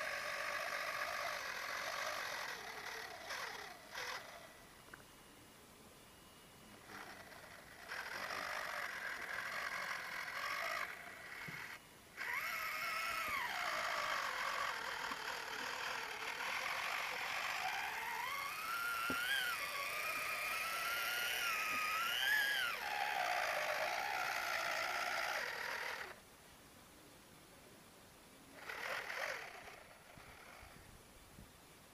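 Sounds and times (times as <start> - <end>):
toy truck motor and gears whining: 0.0 - 5.0, 6.6 - 26.2, 28.5 - 31.0.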